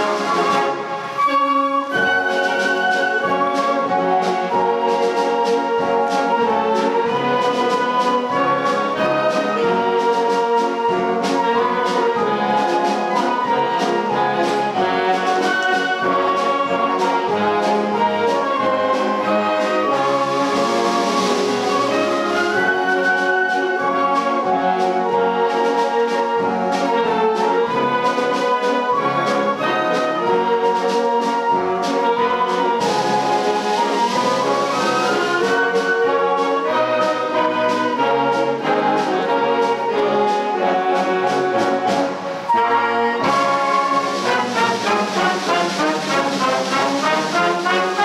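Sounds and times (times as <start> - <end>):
concert band playing a march: 0.0 - 48.0.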